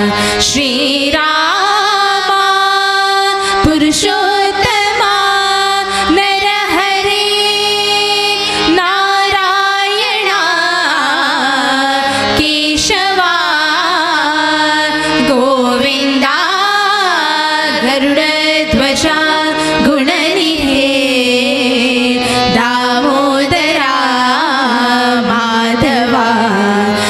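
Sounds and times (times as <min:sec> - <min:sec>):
steady held accompaniment: 0:00.0 - 0:27.0
women singing devotional song: 0:00.0 - 0:27.0.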